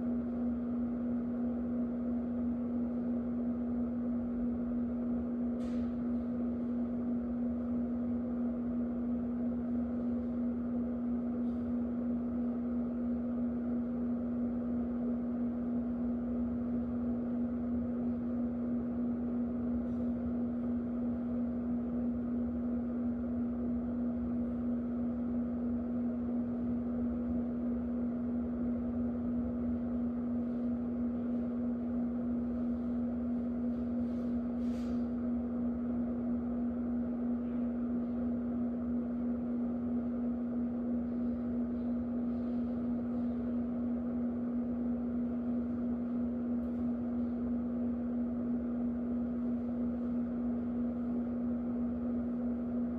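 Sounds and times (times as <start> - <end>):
electric fan running: 0.0 - 52.9.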